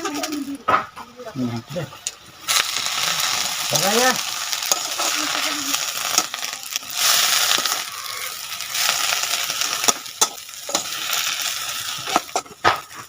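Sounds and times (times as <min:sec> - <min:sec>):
food hissing in a pan: 0:02.4 - 0:13.0.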